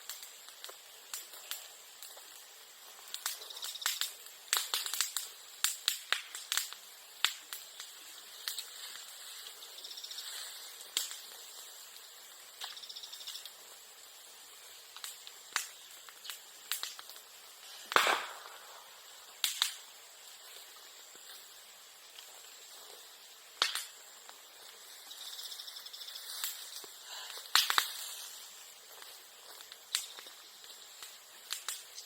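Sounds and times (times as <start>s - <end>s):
bamboo cracking and popping in fire: 0.0s - 32.0s
faint high insect-like trill: 1.3s - 17.1s, 18.7s - 32.0s.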